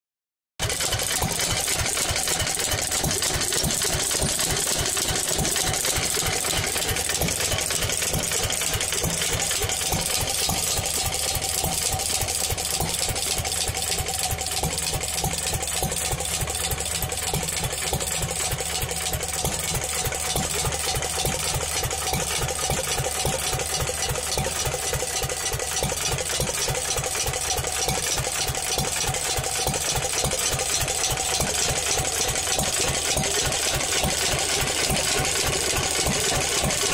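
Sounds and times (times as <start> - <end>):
stationary engine running: 0.6 - 36.9.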